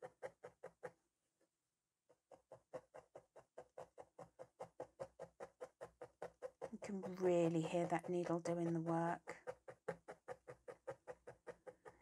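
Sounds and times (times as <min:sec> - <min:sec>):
felting needle punching through felt: 0:02.1 - 0:12.0.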